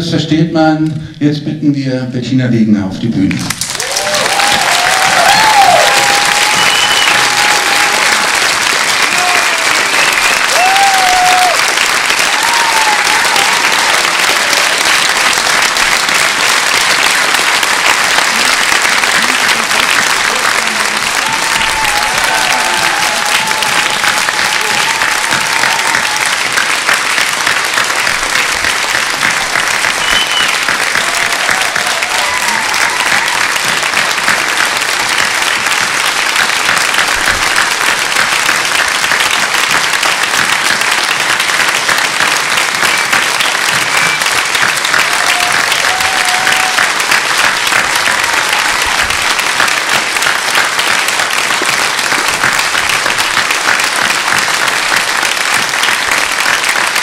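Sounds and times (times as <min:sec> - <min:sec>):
audience applauding: 0:03.4 - 0:57.0.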